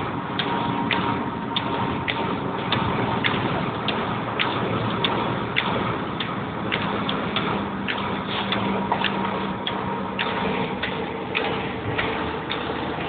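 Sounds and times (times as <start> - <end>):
low engine hum: 0.0 - 13.0
tyre noise on wet road: 0.0 - 13.0
sharp ticks: 0.3 - 13.0.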